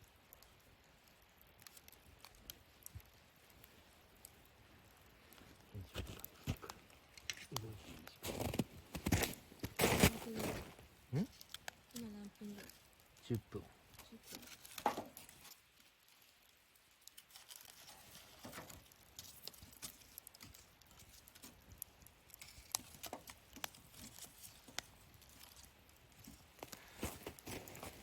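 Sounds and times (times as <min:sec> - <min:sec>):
fire popping and snapping: 0:00.0 - 0:28.0
wood fire crackling: 0:00.0 - 0:28.0.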